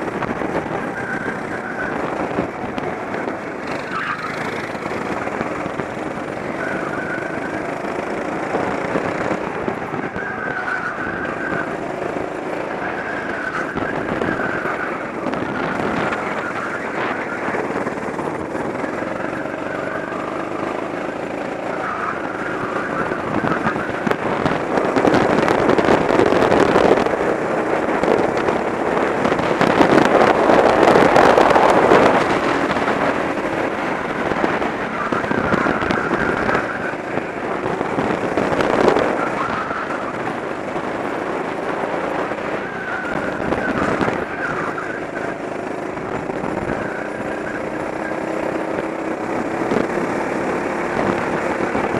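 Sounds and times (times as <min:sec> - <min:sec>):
go-kart engine under throttle: 0:00.0 - 0:51.9.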